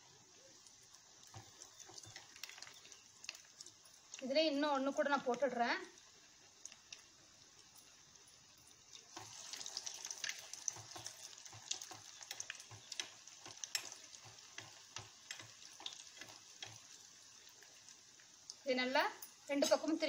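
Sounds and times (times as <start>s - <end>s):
oil crackling while deep-frying: 0.0s - 20.0s.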